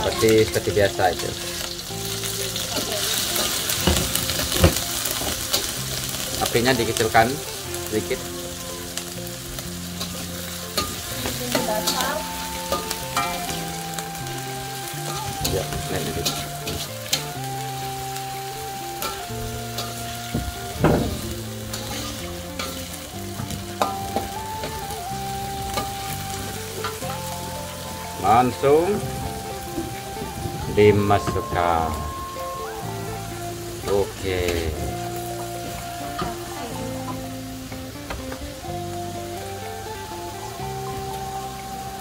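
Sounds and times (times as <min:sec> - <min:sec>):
background melody of held notes: 0:00.0 - 0:42.0
garlic sizzling in hot oil: 0:00.0 - 0:42.0.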